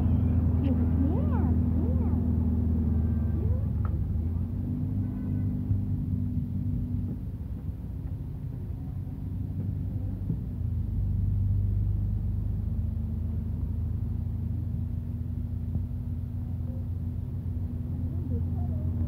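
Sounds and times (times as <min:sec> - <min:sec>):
vehicle engine drone and road rumble: 0:00.0 - 0:19.0.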